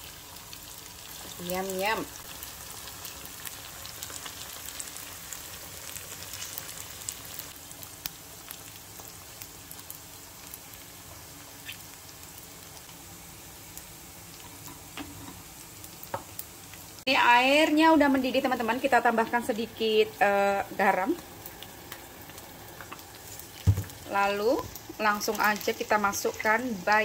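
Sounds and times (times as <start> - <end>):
oil crackling and popping: 0.0 - 17.0, 20.7 - 26.9
food deep-frying in oil: 0.0 - 27.0.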